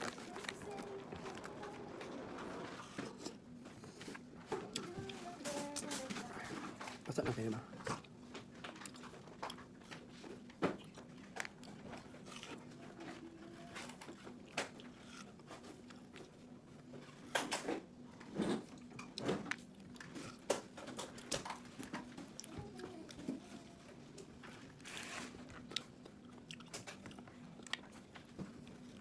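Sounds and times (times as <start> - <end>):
watermelon being chewed: 0.0 - 29.0.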